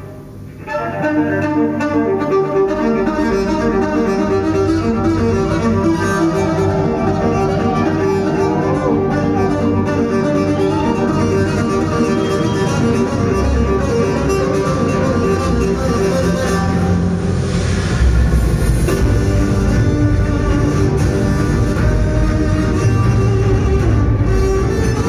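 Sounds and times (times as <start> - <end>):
amplified violin playing: 0.0 - 25.0
low steady backing: 0.0 - 25.0.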